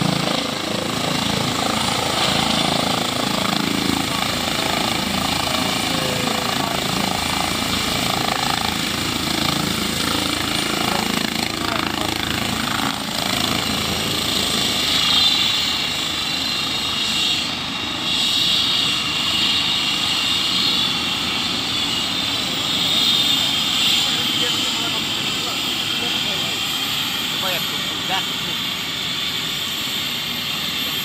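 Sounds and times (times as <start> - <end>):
helicopter rotor noise: 0.0 - 31.0
high turbine whine: 0.0 - 31.0.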